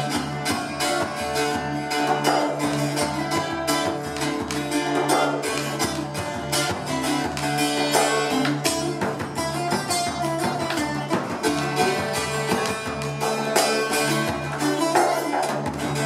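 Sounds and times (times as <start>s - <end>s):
bouzouki strumming: 0.0s - 16.0s
hand frame drum: 0.0s - 16.0s.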